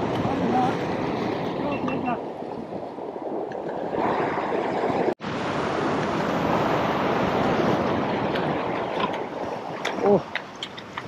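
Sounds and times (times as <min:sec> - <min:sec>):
surf breaking over rocks: 0:00.0 - 0:11.0
wind buffeting microphone: 0:00.0 - 0:11.0.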